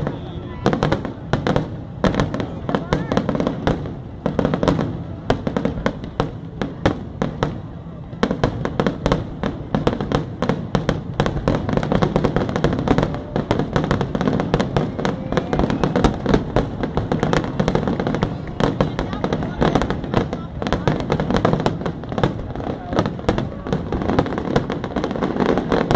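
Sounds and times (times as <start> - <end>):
firework booms and crackles: 0.0 - 25.9.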